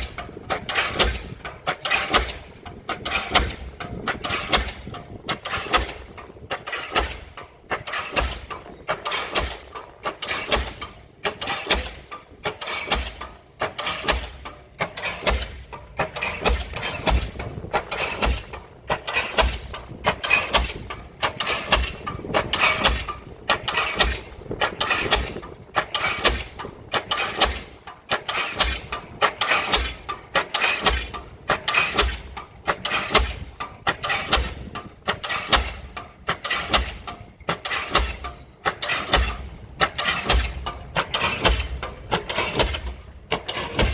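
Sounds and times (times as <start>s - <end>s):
pile hammer banging: 0.0s - 43.9s.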